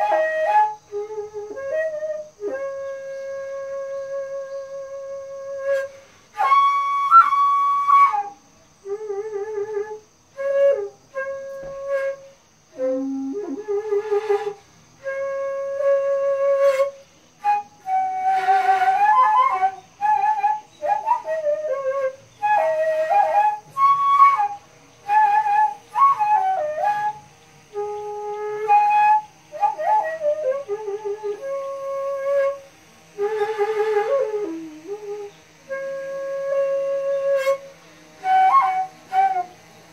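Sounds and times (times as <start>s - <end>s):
bamboo flute melody: 0.0s - 39.9s.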